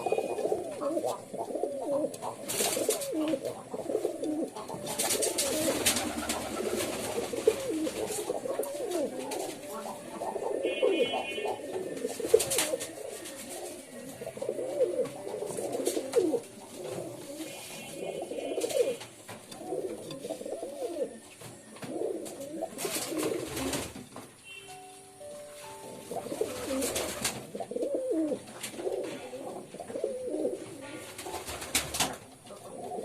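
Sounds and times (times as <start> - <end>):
pigeons cooing: 0.0 - 24.1, 25.8 - 33.0.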